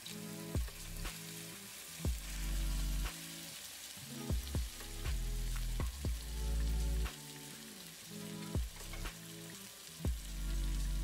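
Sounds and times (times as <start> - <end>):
background music with plucked notes: 0.0 - 11.0
chicken sizzling in hot oil: 0.0 - 11.0.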